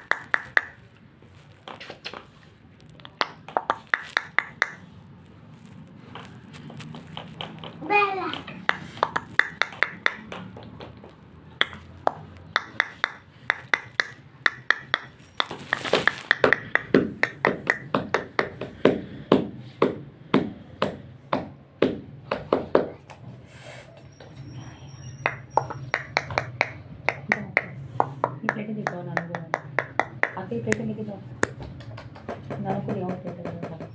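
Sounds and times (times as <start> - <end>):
sharp taps: 3.1 - 4.9, 6.2 - 23.2, 25.2 - 33.9.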